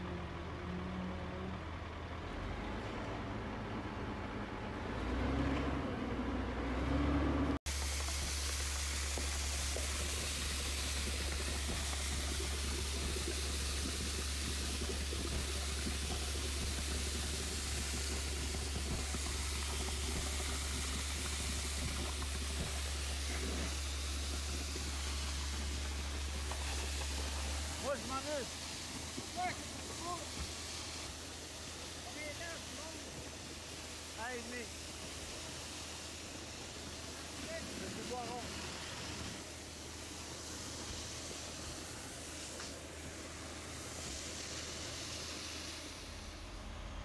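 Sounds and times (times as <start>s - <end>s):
pump truck humming: 0.0s - 47.0s
concrete hissing from hose: 7.6s - 47.0s.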